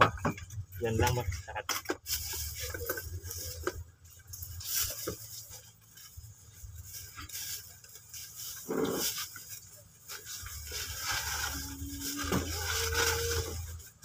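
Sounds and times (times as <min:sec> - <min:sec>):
plastic bags rustling: 0:00.1 - 0:14.0.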